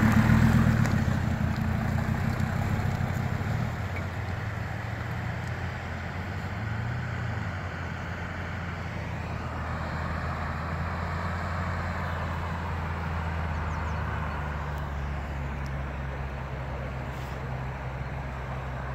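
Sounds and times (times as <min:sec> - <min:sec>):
off-road vehicle engine drone: 0:00.0 - 0:18.9.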